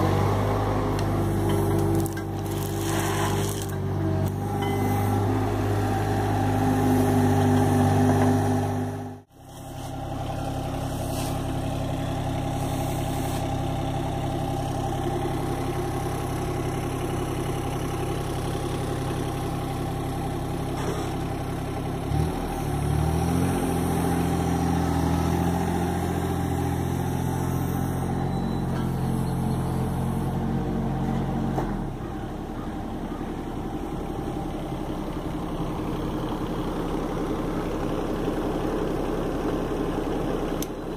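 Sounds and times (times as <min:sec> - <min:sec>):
small diesel engine running: 0:00.0 - 0:40.9.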